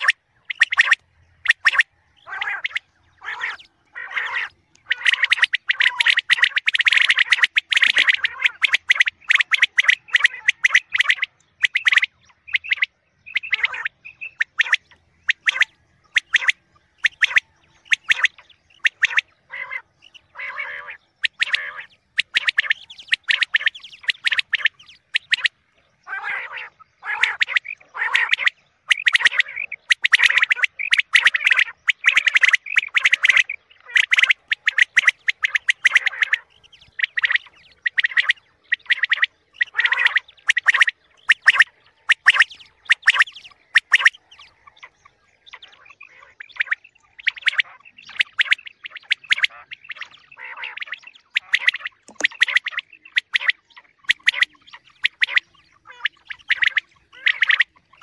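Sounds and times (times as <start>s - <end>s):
quail calls: 0.0s - 58.0s.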